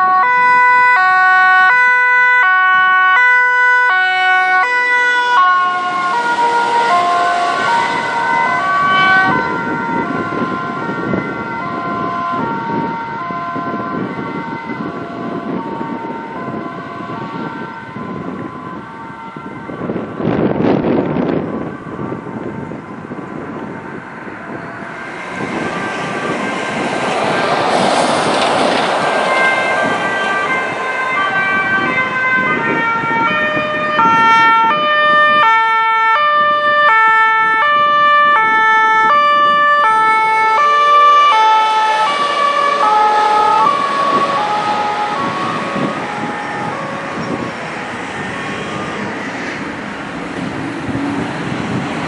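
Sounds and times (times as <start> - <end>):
road traffic noise: 0.0 - 52.0
two-tone ambulance siren: 0.0 - 52.0.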